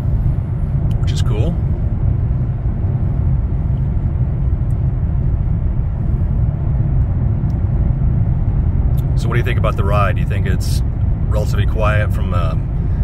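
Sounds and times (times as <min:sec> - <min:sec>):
car cabin road and wind noise: 0:00.0 - 0:13.0.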